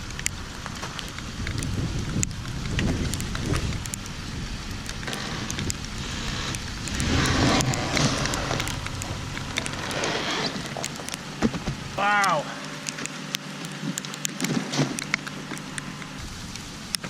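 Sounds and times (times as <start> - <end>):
sharp crackling ticks: 0.0 - 17.0
truck engine running: 0.0 - 17.0.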